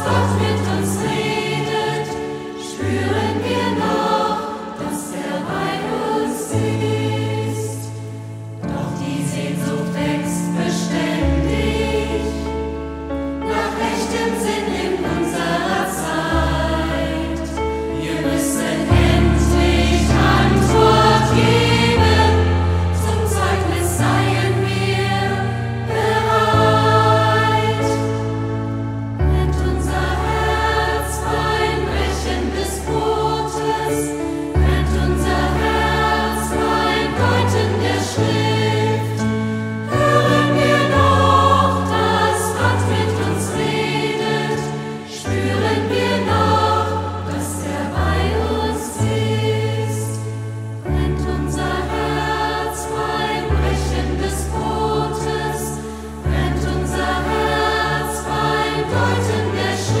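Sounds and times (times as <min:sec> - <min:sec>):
choir singing sacred song: 0:00.0 - 1:00.0.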